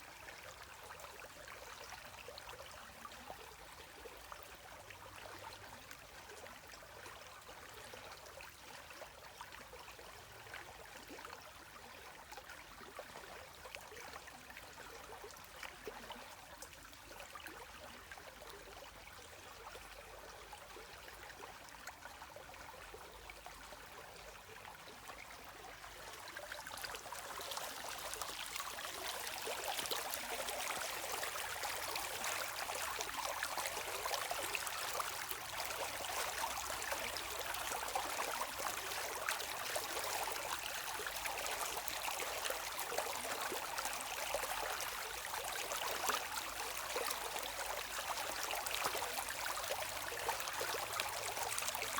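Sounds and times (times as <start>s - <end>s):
stream water trickling and splashing: 0.0s - 51.9s.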